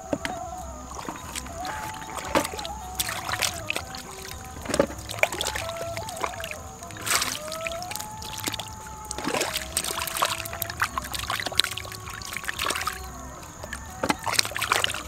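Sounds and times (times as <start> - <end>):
hands splashing in muddy water: 0.0 - 15.0
loud splashes: 0.0 - 15.0
small wet clicks: 0.0 - 15.0.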